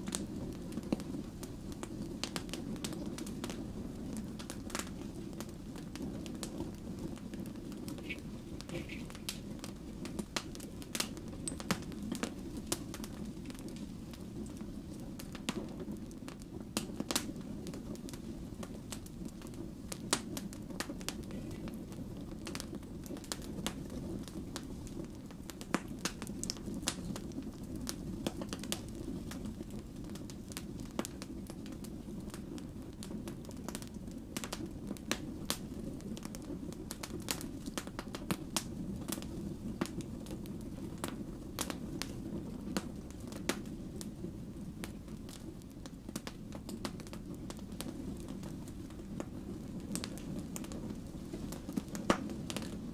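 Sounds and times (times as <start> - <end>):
logs crackling and popping: 0.0 - 52.9
low rumble of flame: 0.0 - 52.9.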